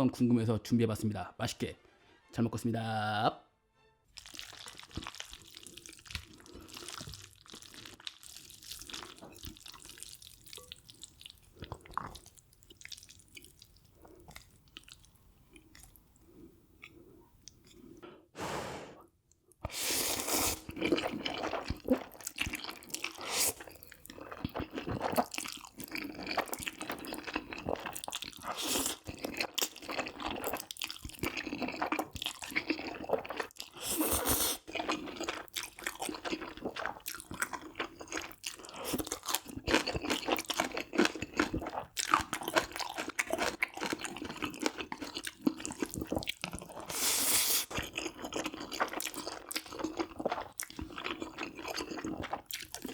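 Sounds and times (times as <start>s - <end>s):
chewing and crunching food: 4.1s - 18.0s, 19.4s - 52.9s.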